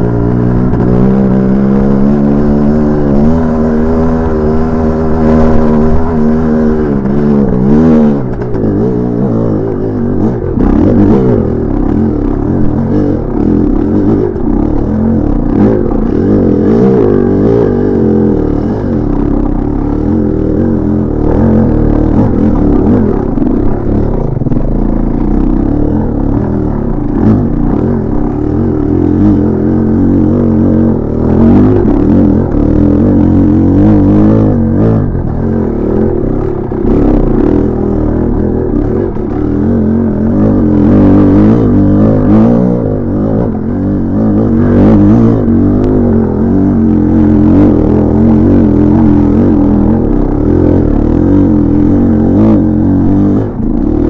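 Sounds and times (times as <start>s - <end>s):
two-stroke dirt bike engine revving: 0.0s - 54.0s.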